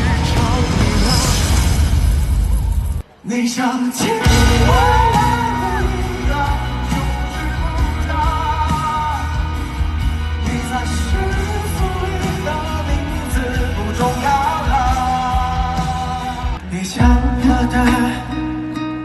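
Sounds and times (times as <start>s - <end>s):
band with heavy bass: 0.0s - 19.0s
person singing: 3.2s - 19.0s.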